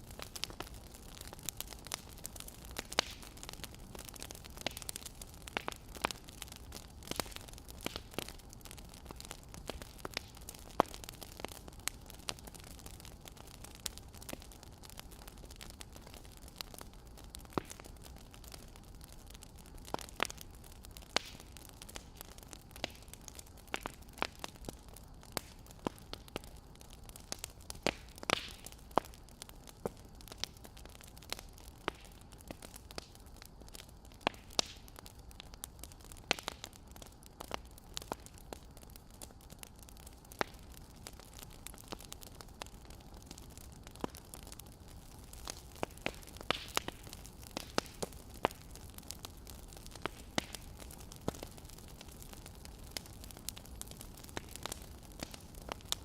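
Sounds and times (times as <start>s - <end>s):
faint hiss: 0.0s - 56.0s
wood fire crackling: 0.0s - 56.0s.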